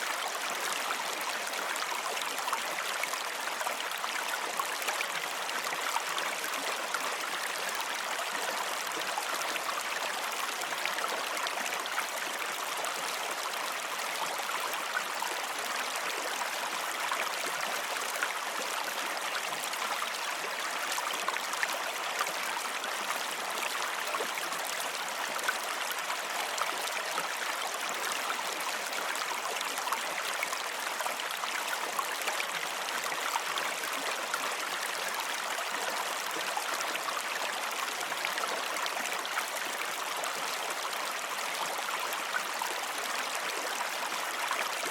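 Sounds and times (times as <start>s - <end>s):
flowing water: 0.0s - 44.9s.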